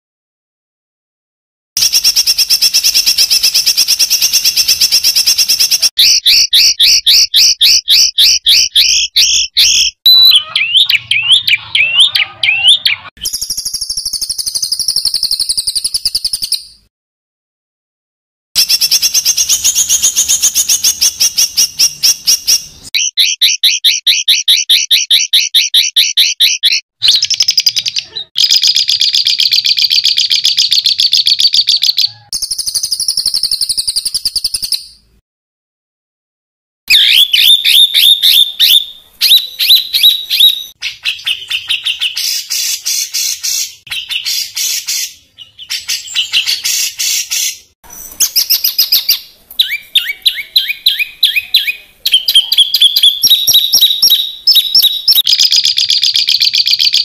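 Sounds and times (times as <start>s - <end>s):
songbird singing rapid high notes: 1.8s - 16.8s, 18.6s - 35.0s, 36.9s - 57.0s.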